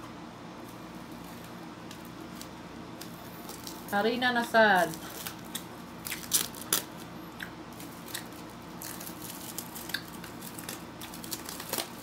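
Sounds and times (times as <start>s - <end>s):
plastic film crinkling: 1.0s - 7.1s, 7.7s - 12.0s.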